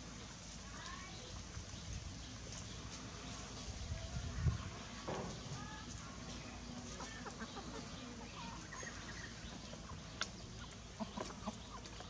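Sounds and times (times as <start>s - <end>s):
chicks peeping: 1.1s - 12.0s
chickens clucking: 1.3s - 12.0s.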